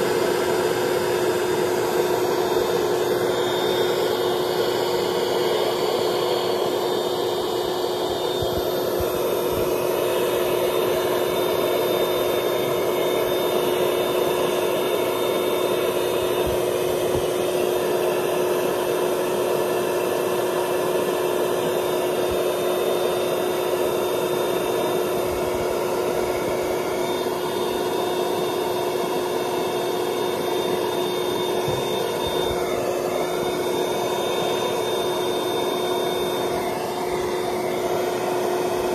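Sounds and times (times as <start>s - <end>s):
electric air pump running: 0.0s - 38.9s.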